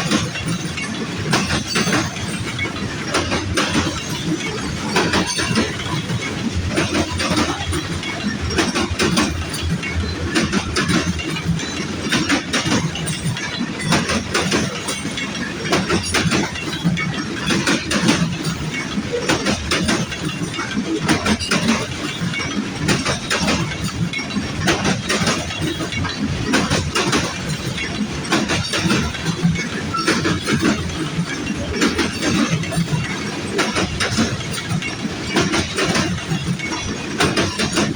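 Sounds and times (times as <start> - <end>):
freight train cars rolling: 0.0 - 37.9
wheels clicking over rail joints: 0.0 - 37.9.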